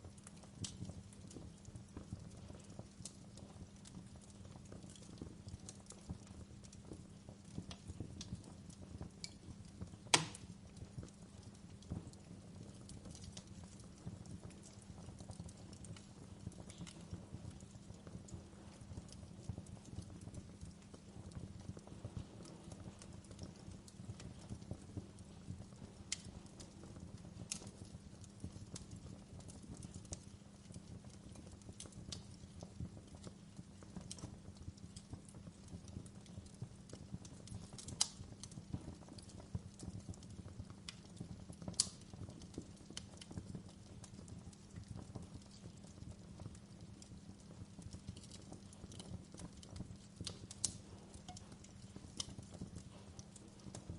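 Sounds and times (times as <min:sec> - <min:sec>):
log fire crackling: 0:00.0 - 0:53.9.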